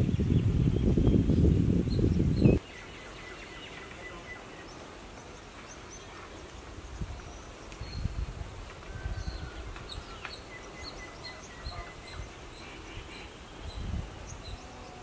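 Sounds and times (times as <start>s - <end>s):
birds chirping: 0.0s - 8.3s, 8.9s - 15.0s.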